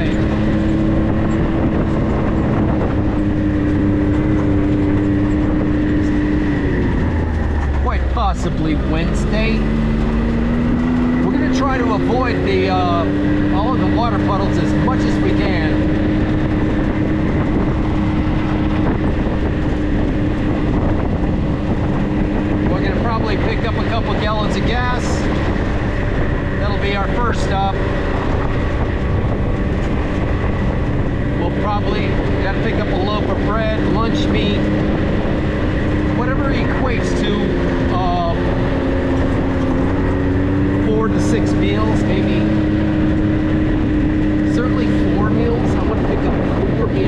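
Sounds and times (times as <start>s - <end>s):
vehicle road and engine noise: 0.0s - 47.0s.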